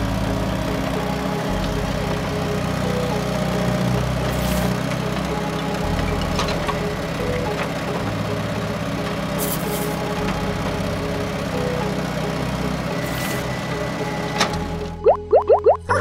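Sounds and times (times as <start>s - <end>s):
small motor droning: 0.0s - 15.0s.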